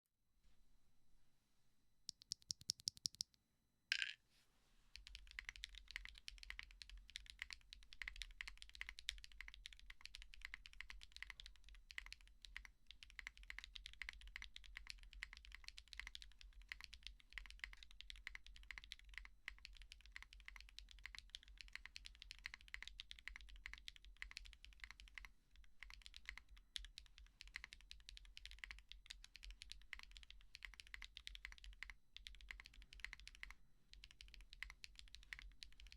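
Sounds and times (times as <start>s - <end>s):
typing on mechanical keyboard: 2.1s - 3.3s, 5.0s - 35.9s.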